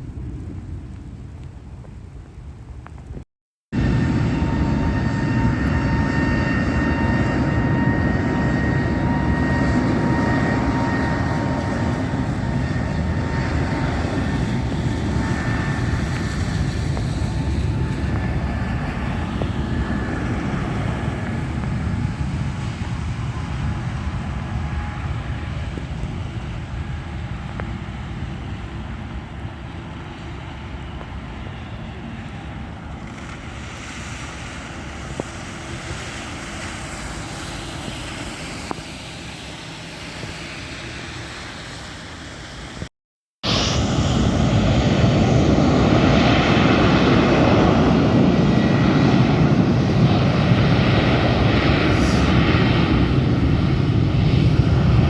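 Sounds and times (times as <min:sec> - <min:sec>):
airliner engines running: 0:00.0 - 0:55.0.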